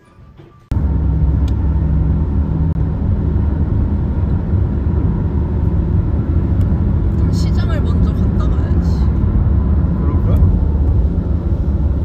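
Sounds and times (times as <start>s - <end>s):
road and engine noise inside car: 0.6s - 12.0s.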